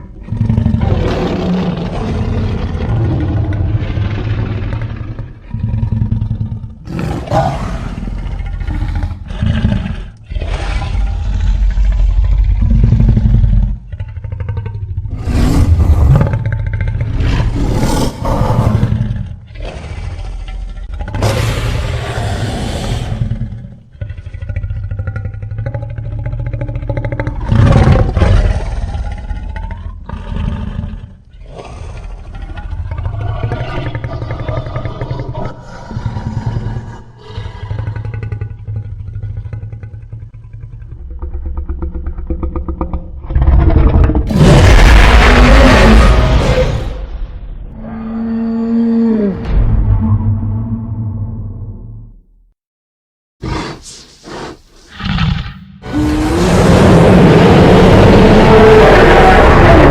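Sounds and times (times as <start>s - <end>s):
cartoon dinosaur growling and roaring: 0.0s - 52.0s, 53.4s - 59.9s.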